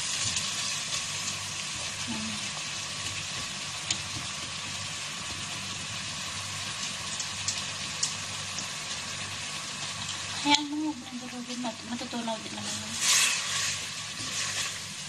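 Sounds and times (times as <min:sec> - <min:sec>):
chicken sizzling in a metal pot: 0:00.0 - 0:15.0.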